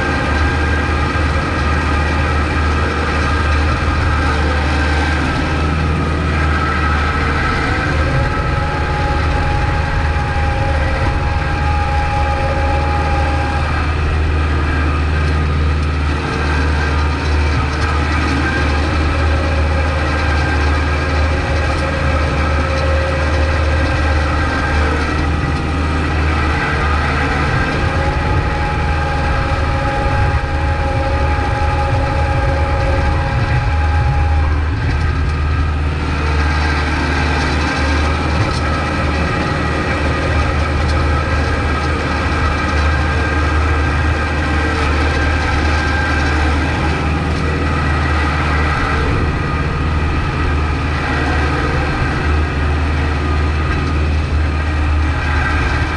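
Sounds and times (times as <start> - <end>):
steady whine: 0.0 - 55.9
tractor engine humming: 0.0 - 55.9.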